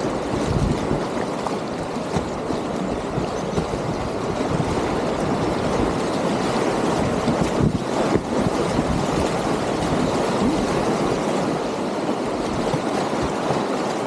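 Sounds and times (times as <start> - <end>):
water splashes: 0.0 - 14.0
whitewater rapids rushing: 0.0 - 14.0.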